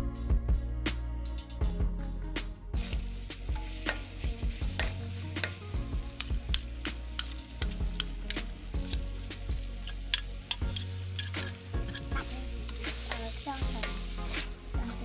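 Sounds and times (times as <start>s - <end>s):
food sizzling in oil: 2.8s - 15.0s
metal spatula scraping wok: 2.8s - 15.0s.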